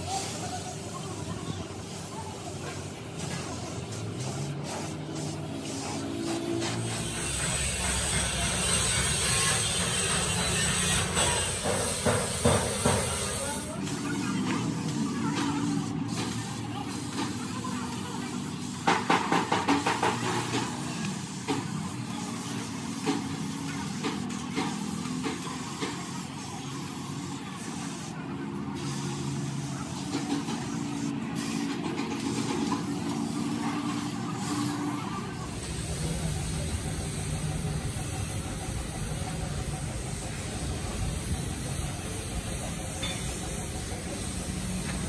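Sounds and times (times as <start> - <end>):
paint spray gun hissing: 0.0 - 8.9, 9.8 - 45.0
machine running steadily: 0.0 - 45.0.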